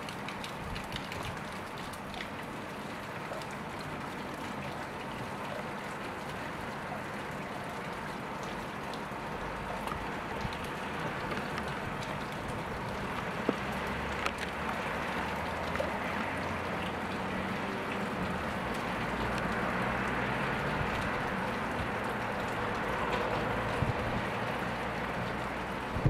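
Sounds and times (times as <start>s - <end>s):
sharp drip ticks: 0.0s - 26.0s
steady rain on pavement: 0.0s - 26.0s.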